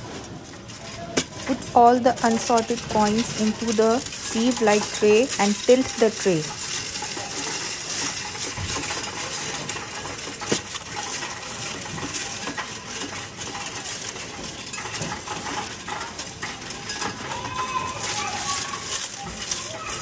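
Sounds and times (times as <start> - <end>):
coins jingling and clinking: 0.1 - 20.0.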